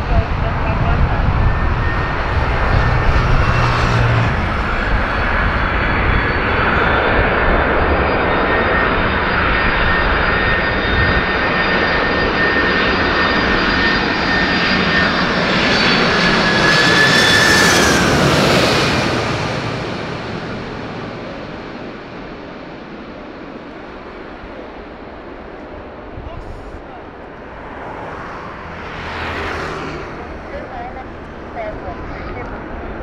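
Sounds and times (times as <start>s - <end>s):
jet engines roaring with whine: 0.0s - 33.0s.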